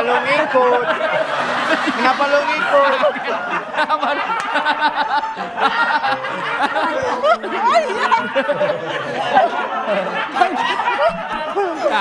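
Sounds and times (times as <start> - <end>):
chatter: 0.0 - 12.0
people laughing: 0.0 - 12.0.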